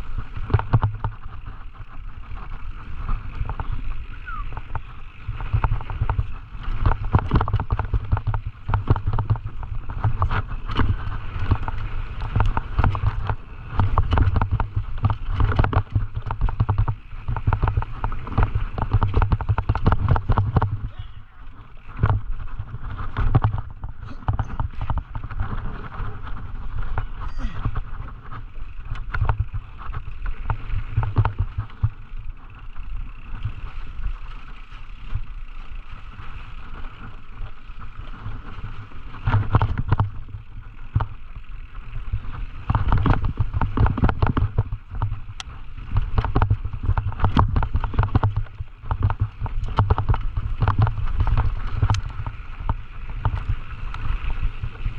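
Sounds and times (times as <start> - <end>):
bike rattling over rough trail: 0.0 - 54.9
wind rumble on microphone: 0.0 - 54.9.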